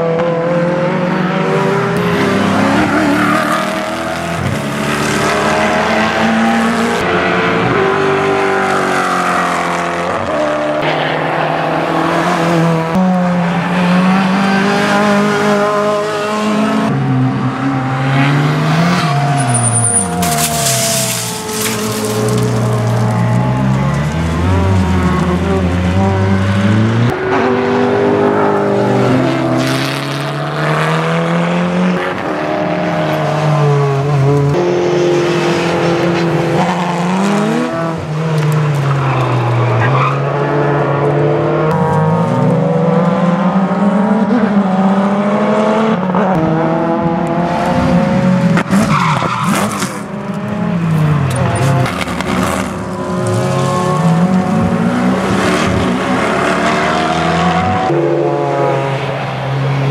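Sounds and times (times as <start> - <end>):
race car engines at full throttle: 0.0 - 59.9.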